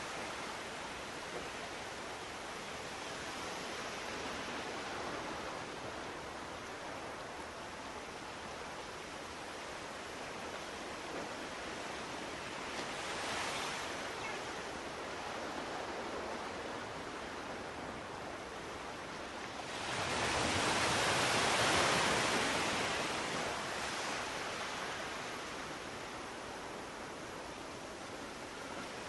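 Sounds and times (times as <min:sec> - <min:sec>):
rushing ocean surf: 0:00.0 - 0:29.0.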